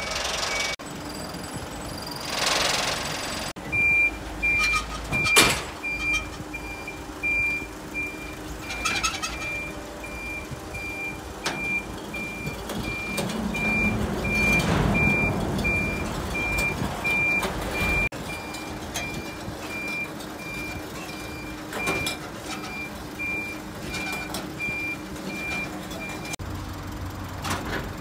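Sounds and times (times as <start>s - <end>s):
truck warning beeper: 0.0s - 2.7s, 3.4s - 26.4s
truck engine running: 0.0s - 28.0s.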